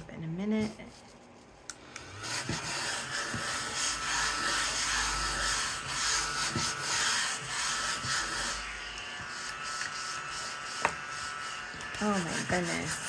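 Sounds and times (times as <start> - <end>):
rubbing and scraping on paper: 2.2 - 13.0.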